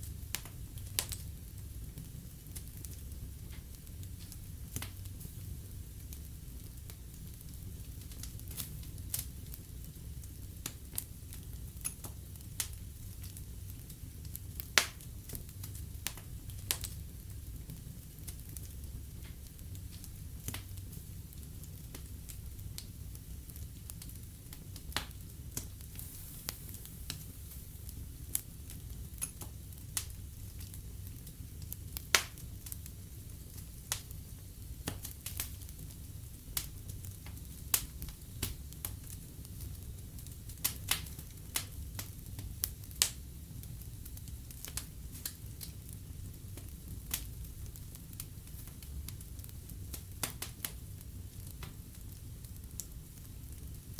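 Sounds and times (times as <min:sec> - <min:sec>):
fire crackling and popping: 0:00.0 - 0:53.9
low rumble of flames: 0:00.0 - 0:53.9.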